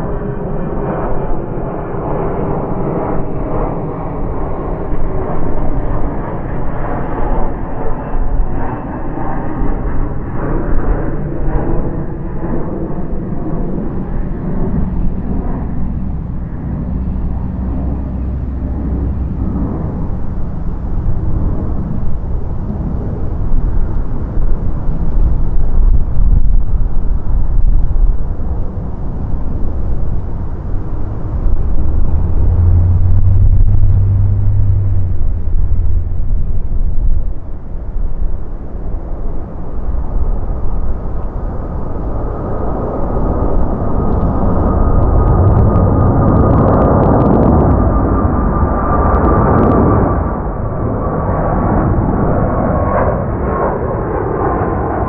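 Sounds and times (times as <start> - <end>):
jet engine roar: 0.0 - 55.0
jet engine whining: 0.0 - 55.0.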